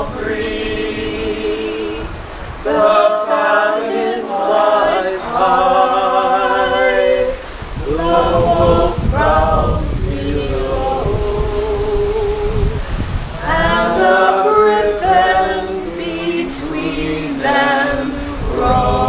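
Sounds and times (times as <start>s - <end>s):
unaccompanied group singing: 0.0s - 19.0s.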